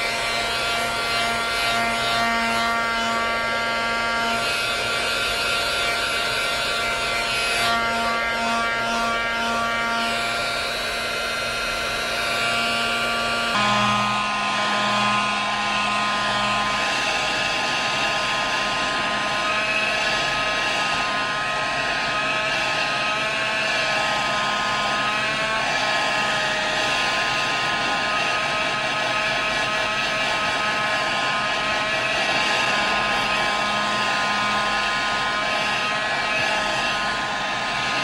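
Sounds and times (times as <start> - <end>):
appliance motor whining: 0.0 - 38.0.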